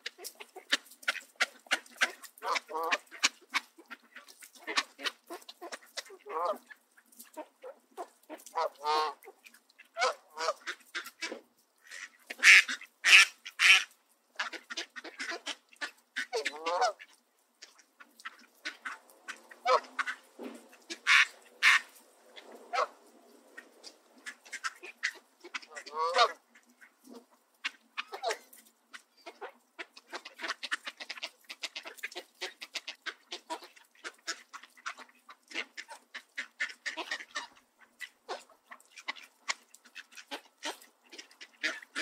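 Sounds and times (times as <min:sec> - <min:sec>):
ducks quacking: 0:00.0 - 0:42.0
geese honking: 0:00.0 - 0:42.0.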